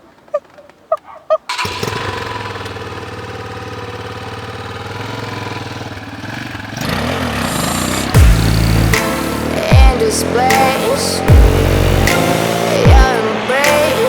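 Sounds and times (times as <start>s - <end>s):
motorcycle engine idling: 1.5s - 14.0s.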